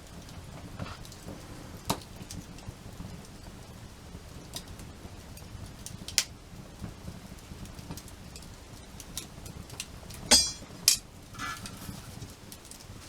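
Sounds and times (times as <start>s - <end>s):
wood fire crackling: 0.0s - 13.0s
sharp pops from fire: 0.1s - 13.0s.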